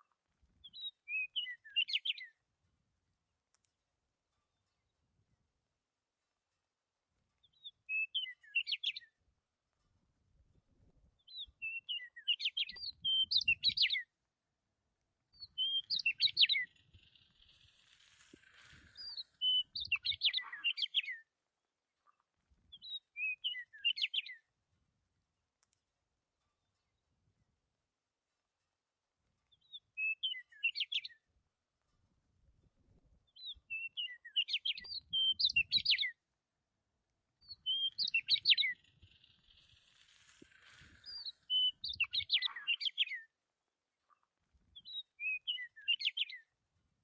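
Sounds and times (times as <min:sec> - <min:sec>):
songbird chirping: 0:00.0 - 0:32.2, 0:33.1 - 0:47.0.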